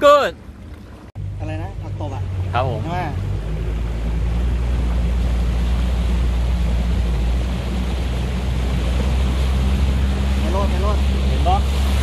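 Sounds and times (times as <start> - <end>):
boat engine droning: 0.0 - 12.0
water and air rushing past: 0.0 - 12.0.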